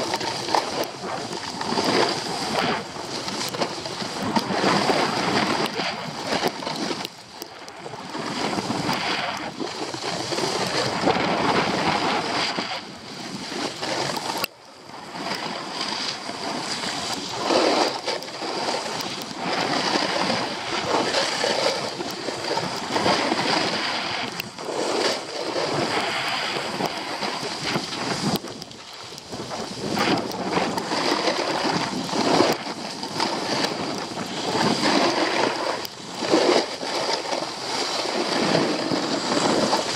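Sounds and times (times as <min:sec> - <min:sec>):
skis scraping over snow: 0:00.0 - 0:39.9
wind on microphone: 0:00.0 - 0:39.9.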